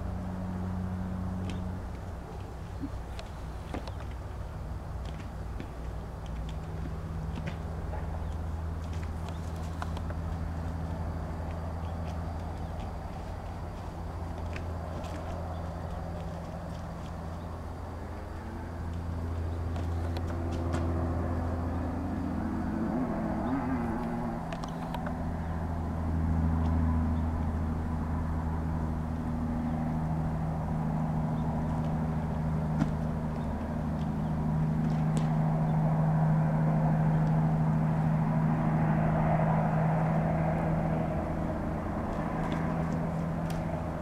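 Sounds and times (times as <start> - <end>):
low engine hum: 0.0 - 44.0.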